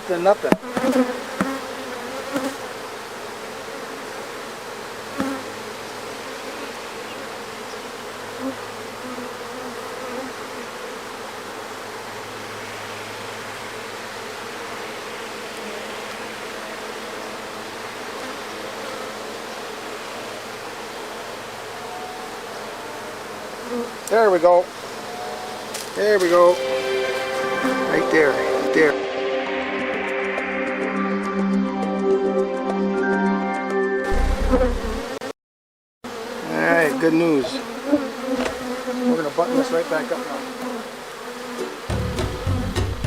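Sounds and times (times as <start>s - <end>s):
honeybees buzzing: 0.0s - 30.4s, 34.1s - 35.3s, 36.1s - 43.0s.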